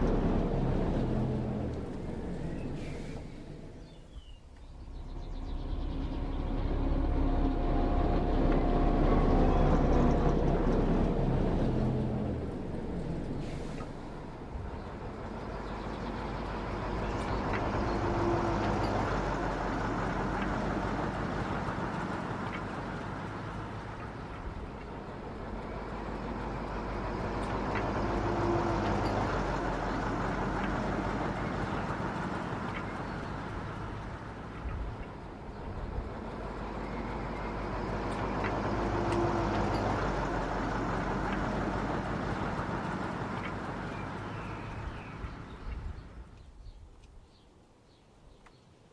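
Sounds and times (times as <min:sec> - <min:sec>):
model train rumbling on track: 0:00.0 - 0:46.8.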